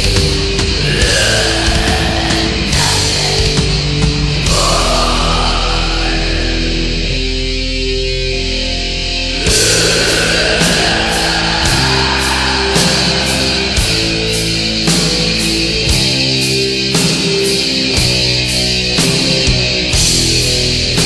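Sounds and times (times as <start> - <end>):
heavy metal music: 0.0 - 21.0.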